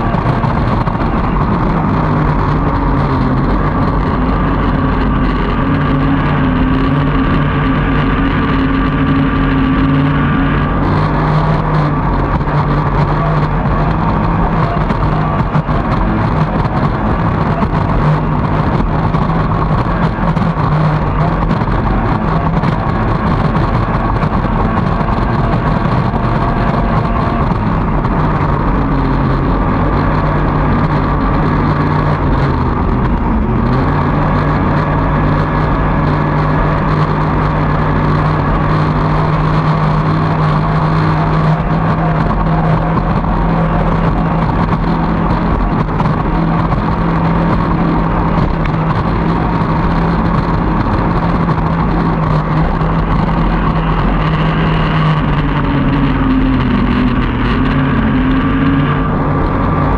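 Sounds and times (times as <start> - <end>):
outboard motor running hard: 0.0 - 59.9.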